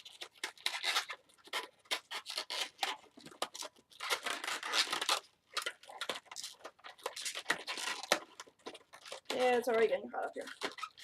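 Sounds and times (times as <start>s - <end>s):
balloons rubbing: 0.0s - 9.6s, 10.4s - 11.0s.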